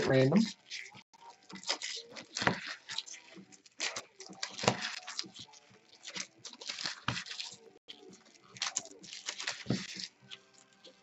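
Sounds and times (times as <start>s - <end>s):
card packaging rustling and tearing: 0.0s - 11.0s.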